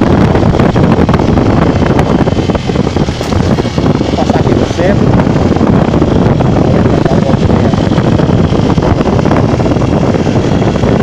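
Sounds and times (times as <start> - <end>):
motorcycle engine: 0.0 - 11.0
wind rumble on microphone: 0.0 - 11.0.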